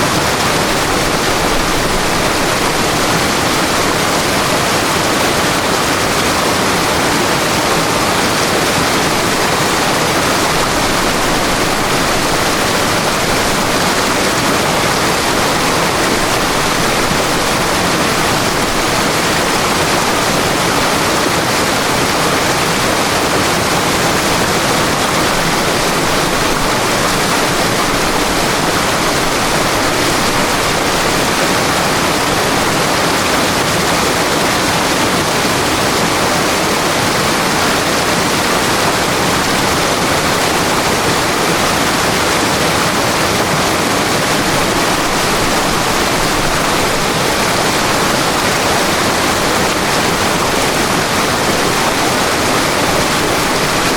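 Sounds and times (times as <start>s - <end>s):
river rushing over rocks: 0.0s - 53.9s.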